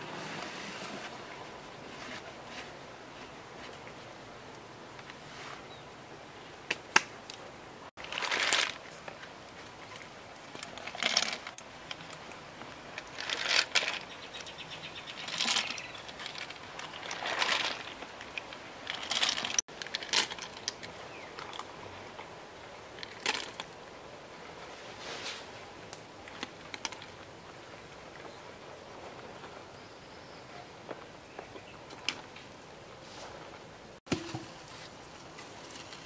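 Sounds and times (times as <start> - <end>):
leaves rustling and crackling: 0.0 - 36.0.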